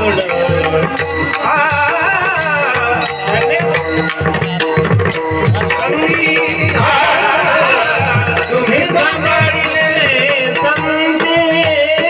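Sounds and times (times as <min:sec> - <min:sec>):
voices singing devotional melody: 0:00.0 - 0:12.0.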